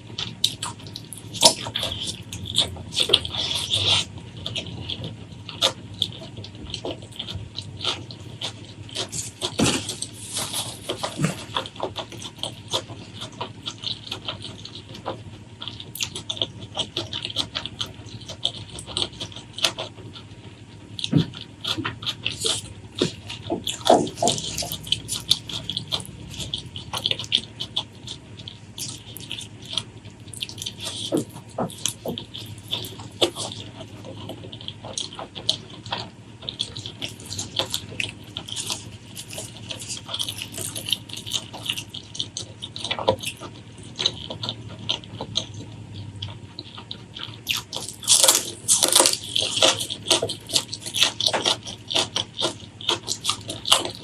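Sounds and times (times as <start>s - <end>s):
wet chewing and lip smacking: 0.0s - 54.0s
sticky clicks and squelches: 0.1s - 20.3s, 21.0s - 54.0s.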